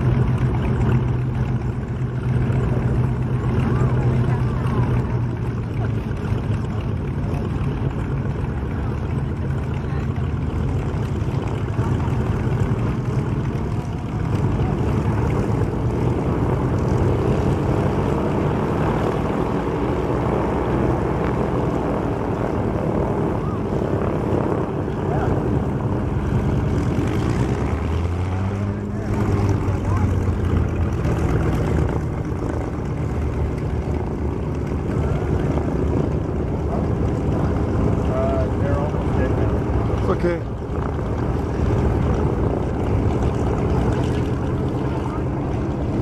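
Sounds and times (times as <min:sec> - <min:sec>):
piston aircraft engines idling: 0:00.0 - 0:46.0.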